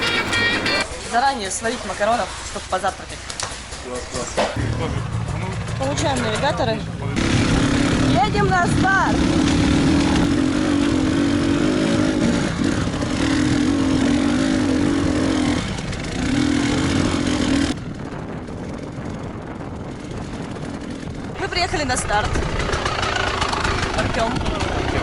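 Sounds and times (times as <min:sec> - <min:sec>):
motorcycle engine running: 0:00.0 - 0:00.9, 0:04.6 - 0:25.0.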